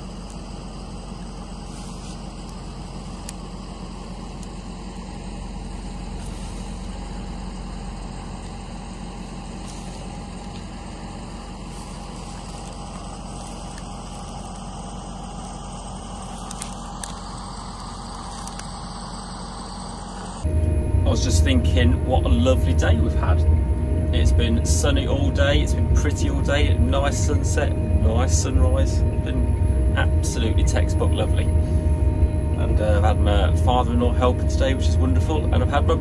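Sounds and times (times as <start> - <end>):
faint steady whine: 0.0 - 36.0
farm machinery engines droning: 0.0 - 36.0.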